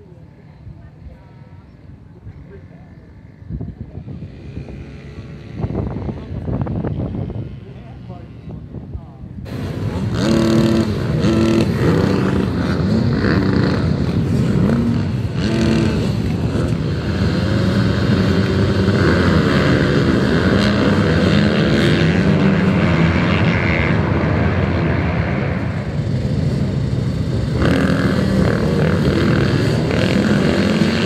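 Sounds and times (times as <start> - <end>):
motorcycle engines idling and revving: 0.0 - 31.0.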